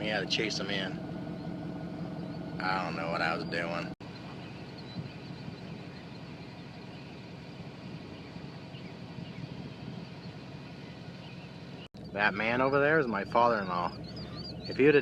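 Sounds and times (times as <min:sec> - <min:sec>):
vehicle engine humming: 0:00.0 - 0:15.0
faint chirps: 0:02.1 - 0:15.0.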